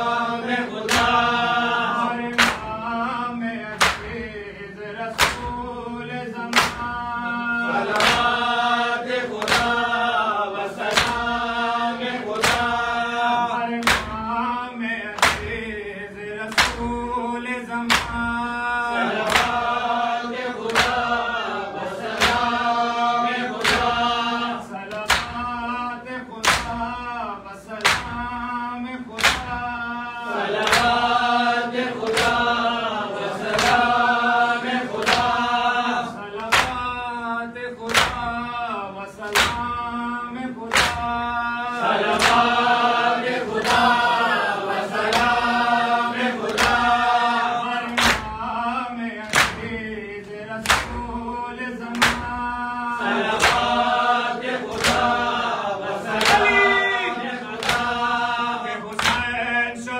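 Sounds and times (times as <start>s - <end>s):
men chanting: 0.0s - 59.9s
rhythmic chest beating slaps: 0.0s - 59.9s.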